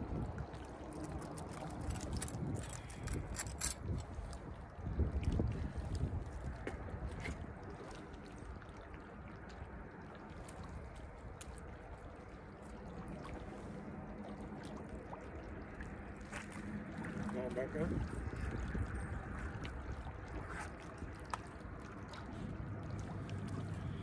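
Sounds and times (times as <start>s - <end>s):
small waves lapping on rocks: 0.1s - 24.0s.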